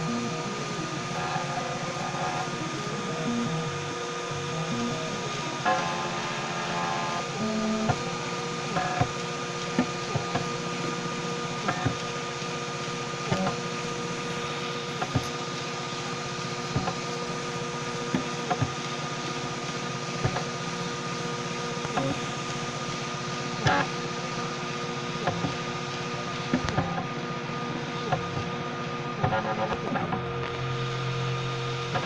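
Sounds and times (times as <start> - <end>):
printer motor and fan hum: 0.0 - 32.0.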